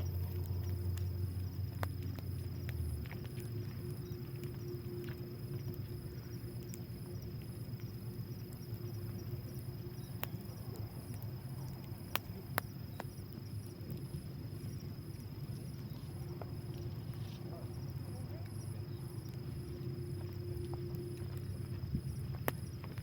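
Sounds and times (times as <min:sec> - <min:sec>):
insects chirping: 0:00.0 - 0:23.0
low steady rumble: 0:00.0 - 0:23.0.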